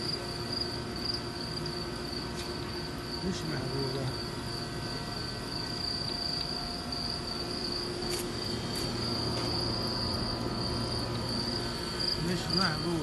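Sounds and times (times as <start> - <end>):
crickets chirping chorus: 0.0 - 13.0
low steady hum: 0.0 - 13.0.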